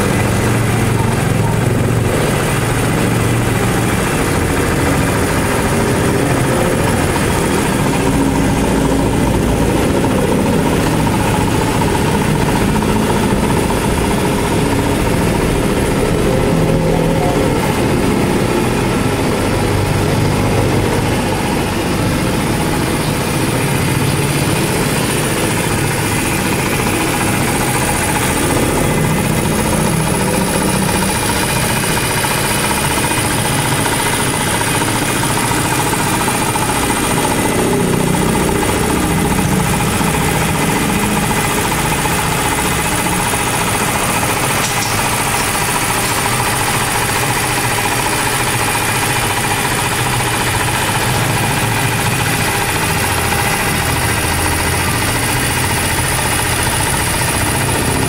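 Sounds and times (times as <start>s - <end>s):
minibike engine idling: 0.0s - 58.0s.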